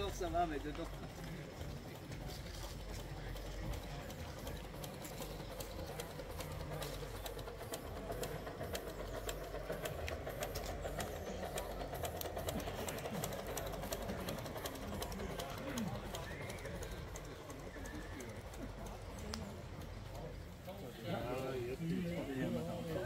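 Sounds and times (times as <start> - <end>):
model locomotive running past: 0.0 - 23.0
wheels clicking over track: 0.0 - 23.0.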